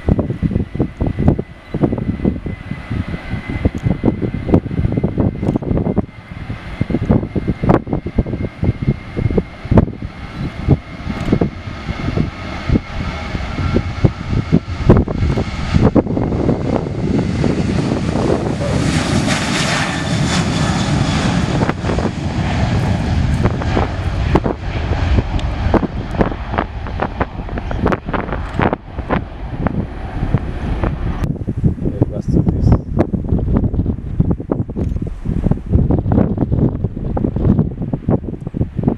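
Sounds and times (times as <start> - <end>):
jet engines at takeoff power: 0.0 - 38.9
wind thumping on microphone: 0.0 - 38.9.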